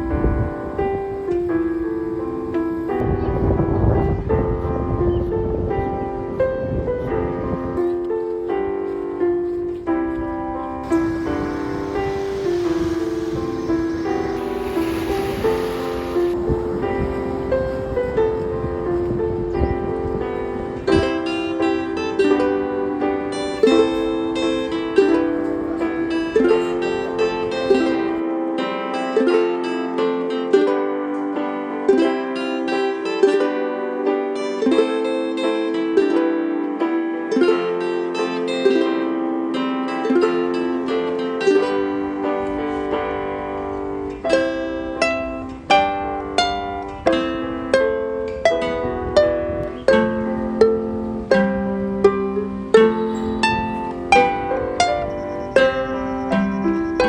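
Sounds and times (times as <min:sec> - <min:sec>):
plucked string instrument melody: 0:04.2 - 0:57.0.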